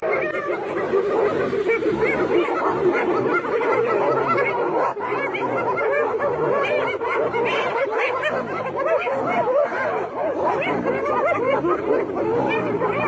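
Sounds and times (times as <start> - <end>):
chorus of animals calling: 0.0 - 13.0.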